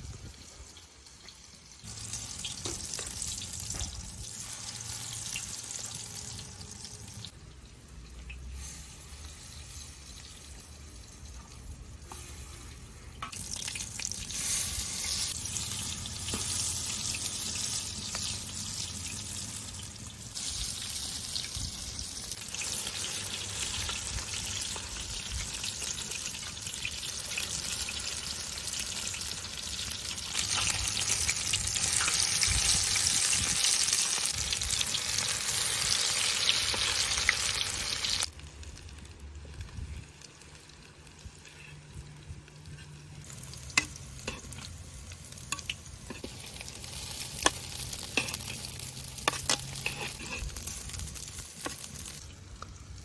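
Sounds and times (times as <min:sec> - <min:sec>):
food sizzling in a hot pan: 0:00.0 - 0:39.0, 0:39.6 - 0:53.0.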